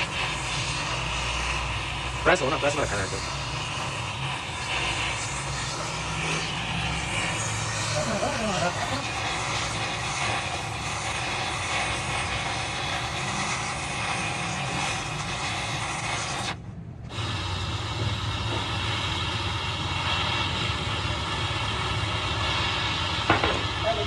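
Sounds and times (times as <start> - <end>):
loud even hiss: 0.0 - 24.0.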